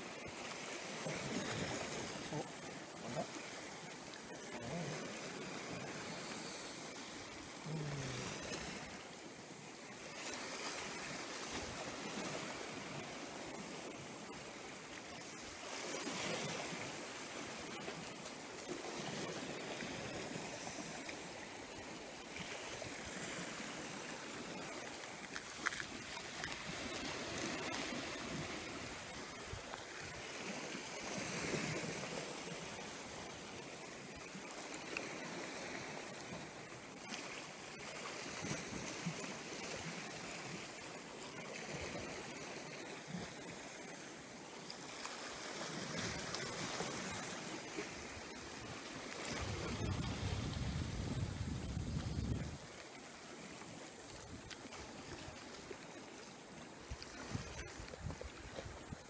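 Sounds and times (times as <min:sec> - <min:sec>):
sea waves washing: 0:00.0 - 0:59.0.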